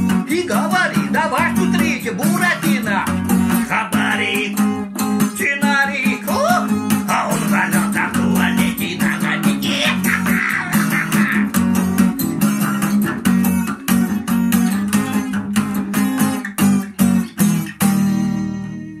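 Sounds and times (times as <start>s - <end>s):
guitar strumming chords: 0.0s - 19.0s.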